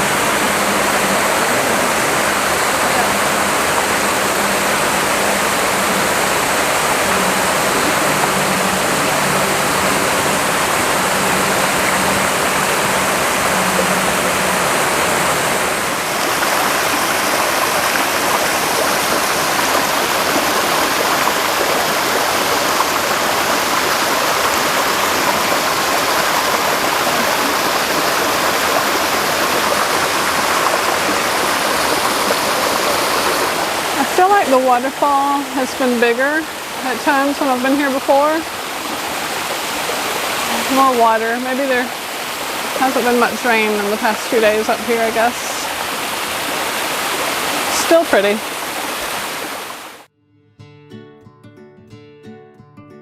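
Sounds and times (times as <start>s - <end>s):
waterfall rushing: 0.0s - 50.1s.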